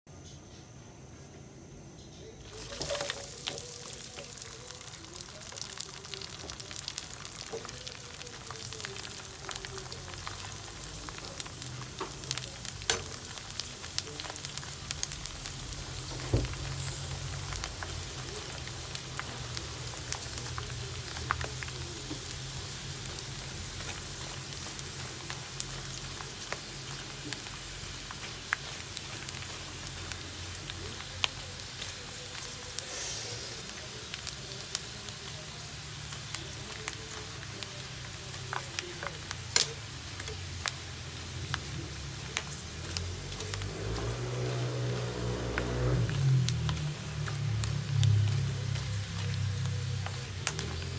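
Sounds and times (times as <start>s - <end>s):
pork rinds deep-frying in oil: 2.4s - 50.9s.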